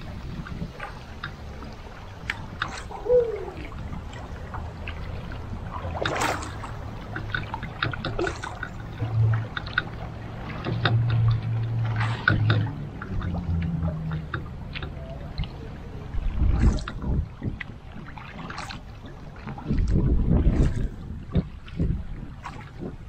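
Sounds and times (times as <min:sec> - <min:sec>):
paddle strokes splashing: 0:00.0 - 0:23.0
water gurgling around hull: 0:00.0 - 0:23.0.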